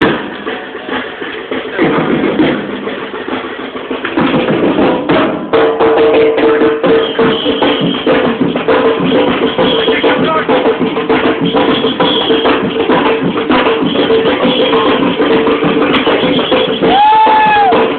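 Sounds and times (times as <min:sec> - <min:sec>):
drums and wood block hits: 0:00.0 - 0:17.9.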